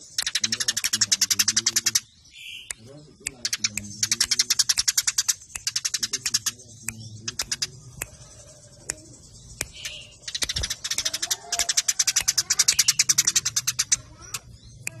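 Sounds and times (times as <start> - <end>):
sparrows chirping: 0.0 - 15.0.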